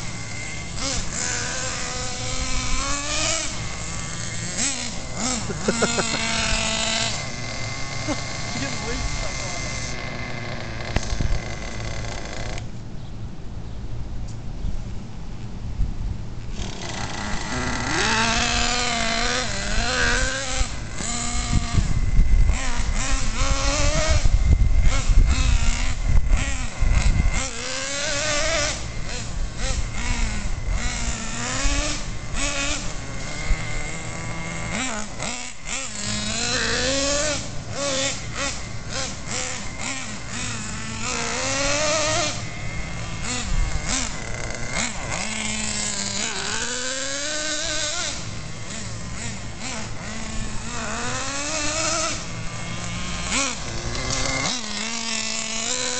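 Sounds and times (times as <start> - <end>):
nitro engine revving: 0.0 - 12.8, 16.4 - 55.9.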